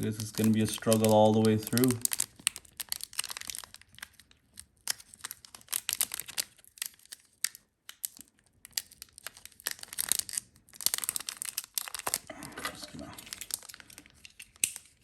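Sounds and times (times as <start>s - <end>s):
plastic wrapper crinkling and tearing: 0.0s - 15.0s.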